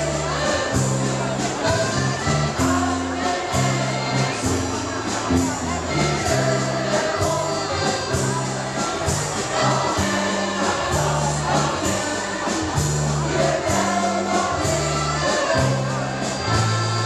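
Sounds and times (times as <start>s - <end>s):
accordion: 0.0s - 17.0s
guitar: 0.0s - 17.0s
held bass notes: 0.0s - 17.0s
mixed choir singing: 0.0s - 17.0s
steady drum beat: 0.0s - 17.0s.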